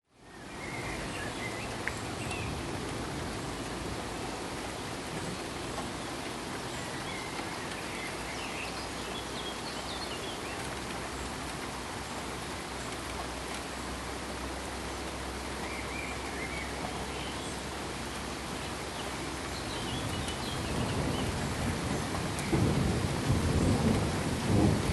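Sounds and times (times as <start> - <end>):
pink noise hiss: 0.1 - 24.9.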